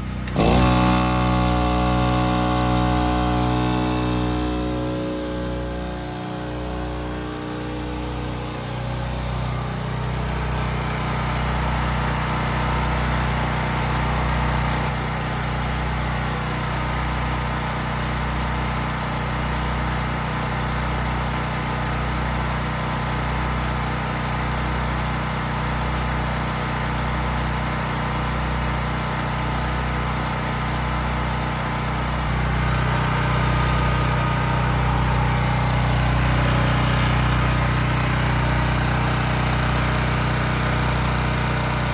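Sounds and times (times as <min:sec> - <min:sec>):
generator engine running: 0:00.0 - 0:41.9.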